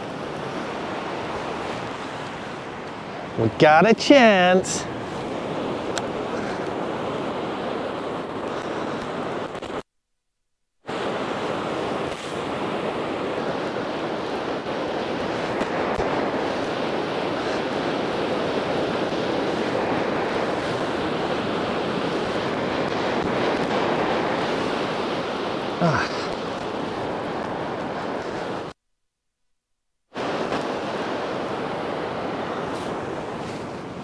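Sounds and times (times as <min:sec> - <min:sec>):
sea waves on shore: 0:00.0 - 0:09.9, 0:10.8 - 0:28.8, 0:30.1 - 0:34.0.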